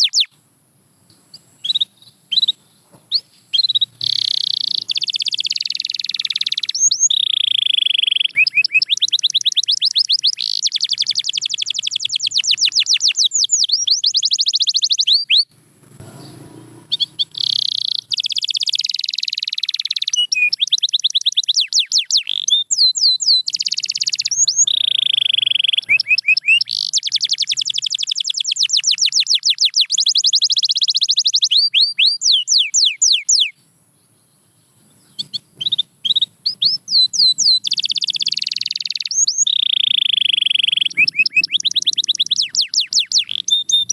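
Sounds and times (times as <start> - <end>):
canary singing fast trills: 0.0 - 0.4, 1.1 - 43.9.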